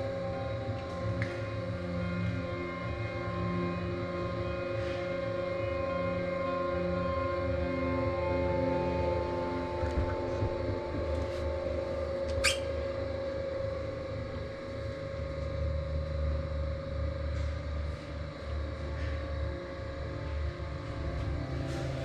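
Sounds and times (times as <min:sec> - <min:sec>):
dark ambient drone music: 0:00.0 - 0:22.0.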